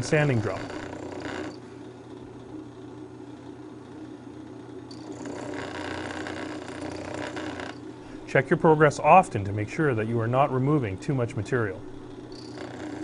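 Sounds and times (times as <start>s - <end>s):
drill press humming: 0.0s - 13.0s.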